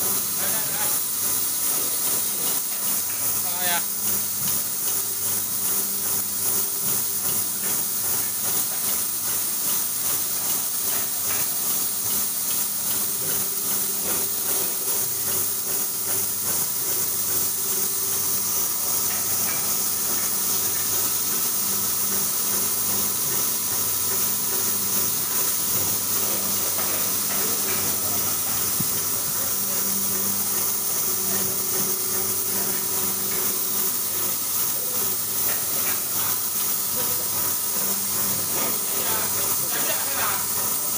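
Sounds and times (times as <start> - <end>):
feeders humming and rattling parts: 0.0 - 40.9.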